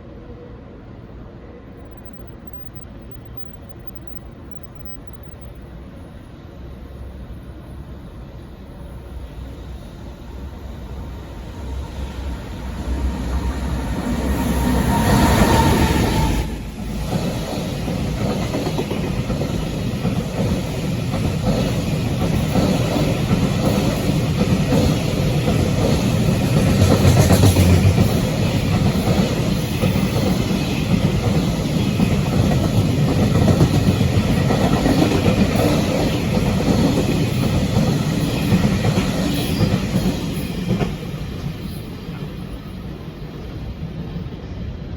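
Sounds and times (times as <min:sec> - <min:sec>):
freight train passing: 0:00.0 - 0:44.9.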